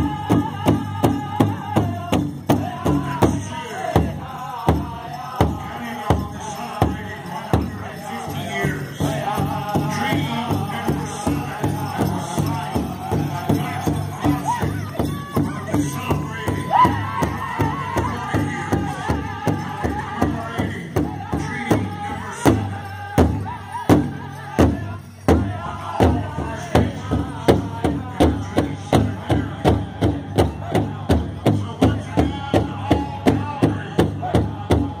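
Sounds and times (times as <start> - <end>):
big drum beating: 0.0 - 35.0.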